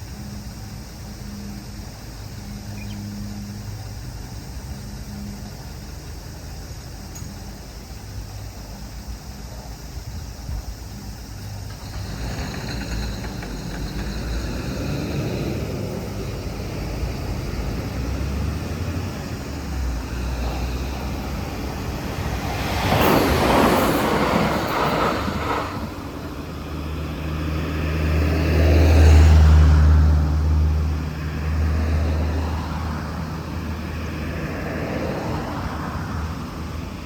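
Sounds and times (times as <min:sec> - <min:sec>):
car passing with tyre noise: 0:00.0 - 0:37.0
low engine drone: 0:00.0 - 0:37.0.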